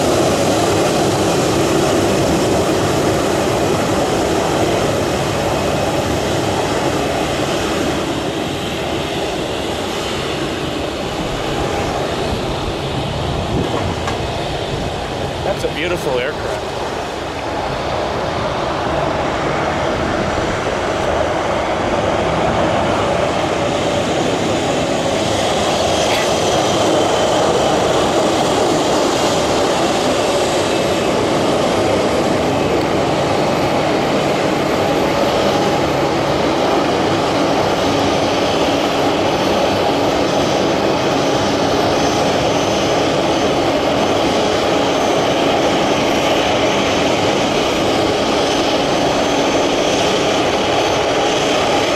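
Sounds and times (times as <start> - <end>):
jet engines whining at taxi power: 0.0 - 51.9.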